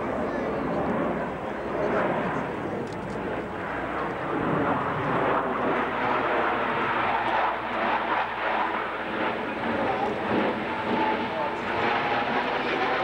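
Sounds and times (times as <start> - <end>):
jet rushing roar: 0.0 - 13.0.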